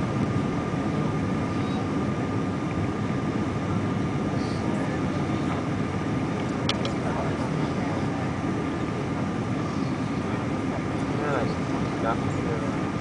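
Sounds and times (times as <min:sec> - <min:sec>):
rush of jet engines and airflow: 0:00.0 - 0:13.0
thin steady whine: 0:00.0 - 0:13.0.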